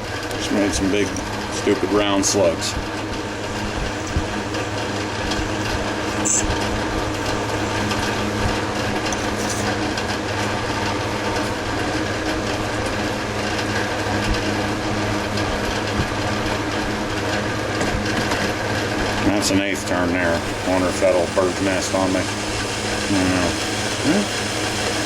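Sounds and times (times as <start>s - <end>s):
metal lathe humming: 0.0s - 25.0s.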